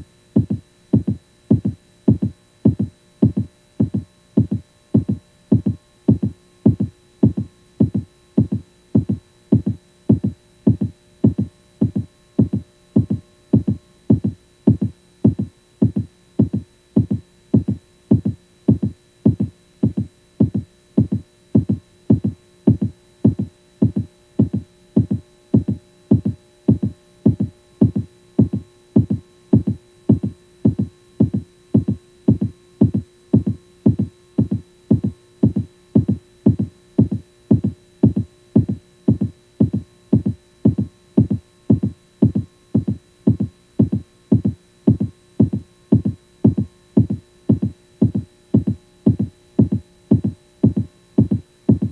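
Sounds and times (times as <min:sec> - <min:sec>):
electronic pulse: 0:00.0 - 0:51.9
low steady hum: 0:00.0 - 0:51.9.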